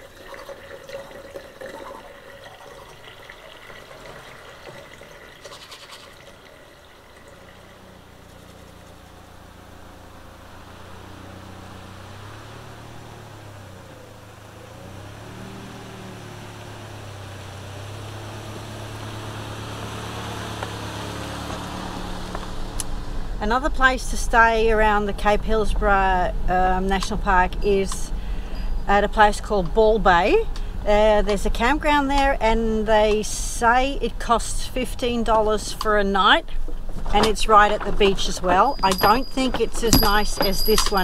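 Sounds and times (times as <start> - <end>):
van engine approaching: 2.2 - 41.0.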